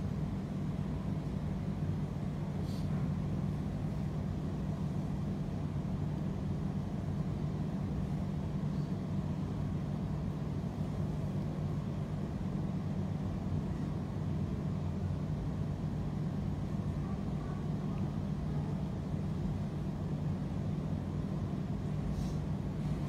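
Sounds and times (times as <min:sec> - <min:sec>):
electric fans and air conditioning hum: 0:00.0 - 0:23.0.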